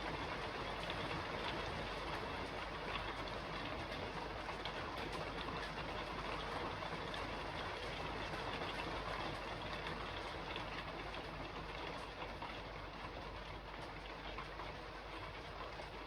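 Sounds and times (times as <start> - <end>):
rain falling on a roof: 0.0 - 16.0.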